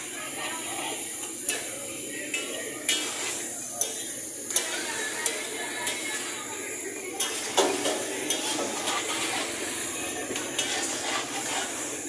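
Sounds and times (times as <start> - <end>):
metal spatula scraping a griddle: 0.0 - 12.0
onions sizzling in oil: 0.0 - 12.0.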